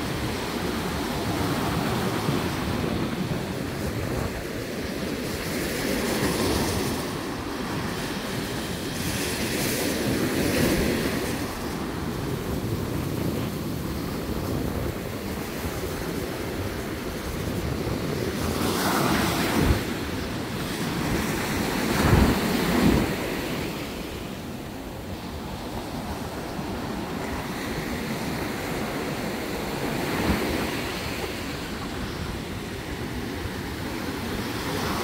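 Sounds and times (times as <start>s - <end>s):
ocean surf breaking: 0.0s - 35.0s
wind buffeting microphone: 0.0s - 35.0s.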